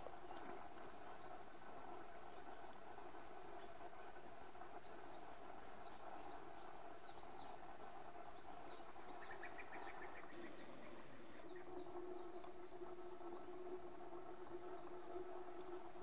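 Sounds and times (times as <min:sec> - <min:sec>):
steady low hum: 0:00.0 - 0:16.0
wild birds chirping: 0:00.0 - 0:16.0.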